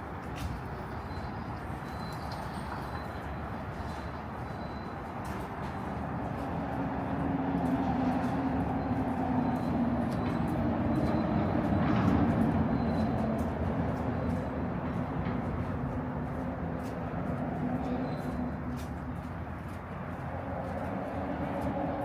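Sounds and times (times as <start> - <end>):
vehicle passing with low hum: 0.0 - 22.0.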